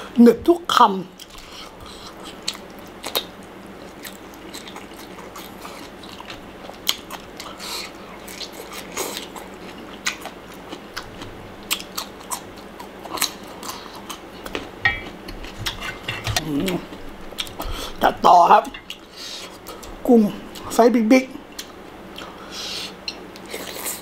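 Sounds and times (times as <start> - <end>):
person chewing and crunching food: 1.2 - 20.8, 21.5 - 24.0.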